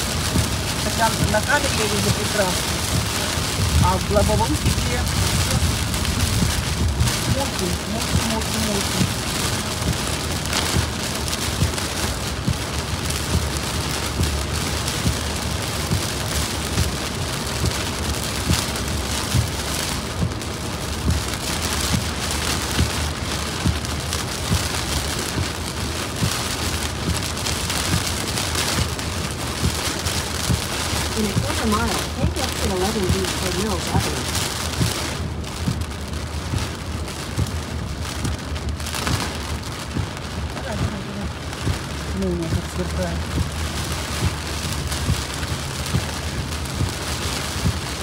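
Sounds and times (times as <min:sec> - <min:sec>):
heavy rain striking a car: 0:00.0 - 0:48.0
road and tyre rumble: 0:00.0 - 0:48.0.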